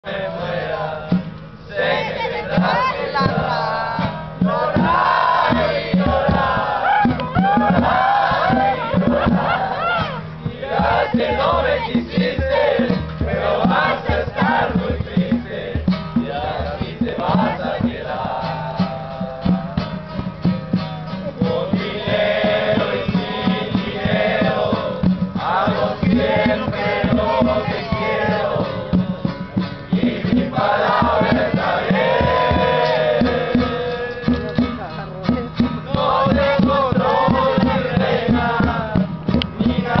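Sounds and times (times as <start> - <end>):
group of people singing: 0.0 - 40.0
quick rhythmic beat: 0.1 - 40.0.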